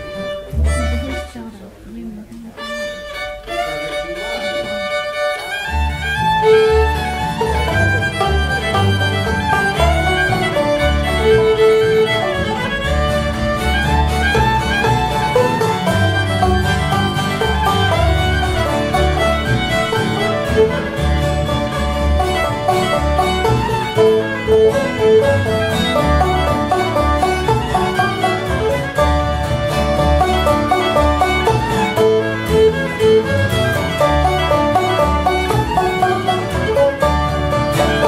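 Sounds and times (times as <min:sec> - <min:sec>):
banjo: 0:00.0 - 0:02.0, 0:02.6 - 0:38.0
upright bass: 0:00.0 - 0:02.7, 0:03.4 - 0:38.0
acoustic guitar: 0:00.0 - 0:38.0
fiddle melody: 0:00.0 - 0:38.0.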